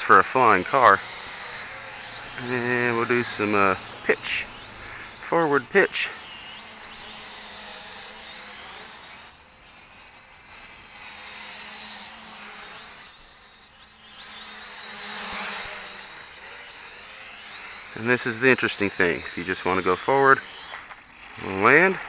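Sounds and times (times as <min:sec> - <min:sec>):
toy drone motors whining: 0:00.0 - 0:22.0.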